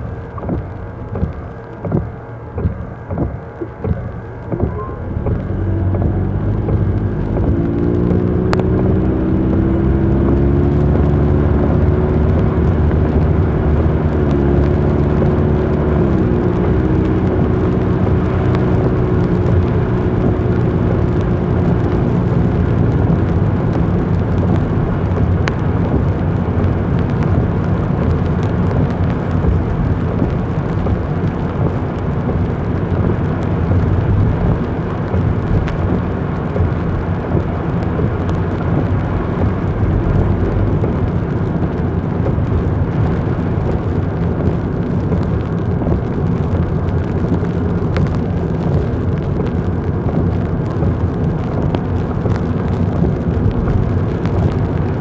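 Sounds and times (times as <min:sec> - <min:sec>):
car engine accelerating: 0:00.0 - 0:55.0
road and tyre noise: 0:00.0 - 0:55.0.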